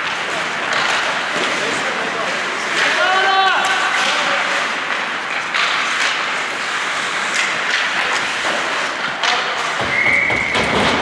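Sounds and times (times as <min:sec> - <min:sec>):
hockey sticks knocking: 0:00.0 - 0:11.0
skates scraping on ice: 0:00.0 - 0:11.0.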